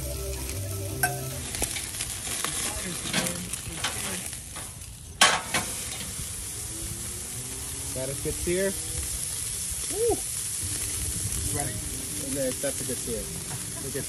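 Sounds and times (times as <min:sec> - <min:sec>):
food sizzling on a grill: 0:00.0 - 0:14.0.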